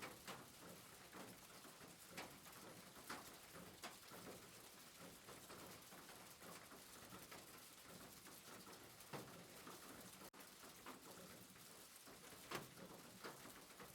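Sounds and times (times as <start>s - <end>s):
faint soft rain: 0.0s - 13.9s.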